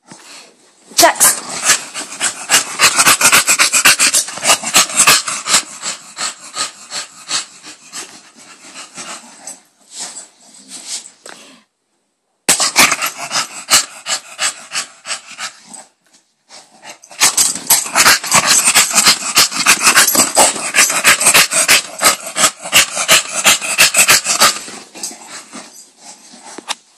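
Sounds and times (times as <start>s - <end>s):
dog breathing and vocalizing: 1.4s - 10.4s, 12.7s - 26.7s.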